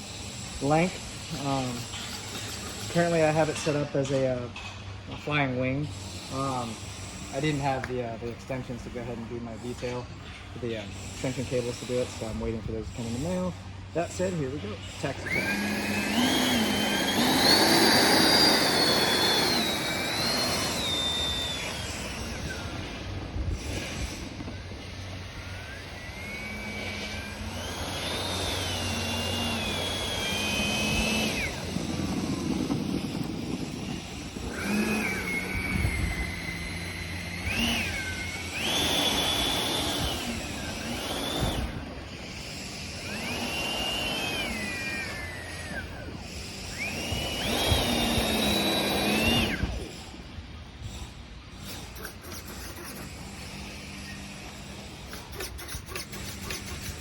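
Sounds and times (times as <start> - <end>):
model jet motor whining: 0.0 - 57.0.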